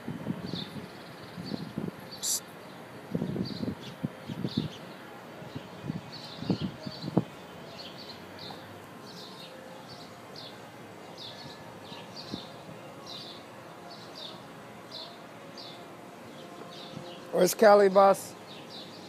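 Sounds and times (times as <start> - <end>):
low outdoor background: 0.0 - 19.0
bird chirping: 0.5 - 19.0.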